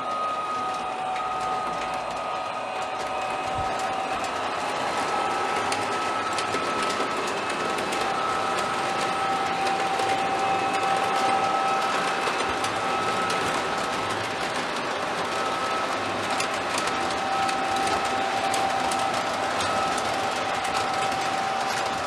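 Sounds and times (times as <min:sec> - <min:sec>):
model train motor whine: 0:00.0 - 0:22.0
wheels clicking over track: 0:00.0 - 0:22.0.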